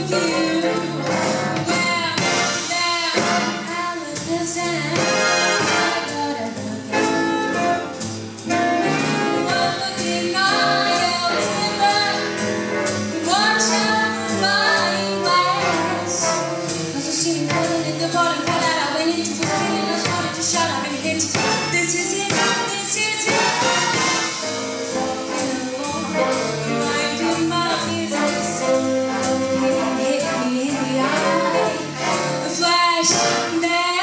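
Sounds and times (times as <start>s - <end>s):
woman singing: 0.0s - 12.5s, 13.1s - 34.0s
jazz big band playing: 0.0s - 34.0s.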